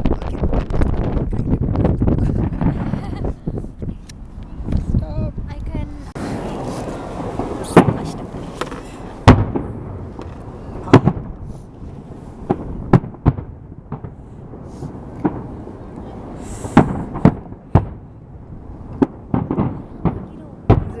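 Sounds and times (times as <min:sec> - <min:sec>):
fireworks sharp bangs: 0:00.0 - 0:04.0, 0:06.2 - 0:21.0
distant fireworks crackling and pops: 0:00.0 - 0:21.0.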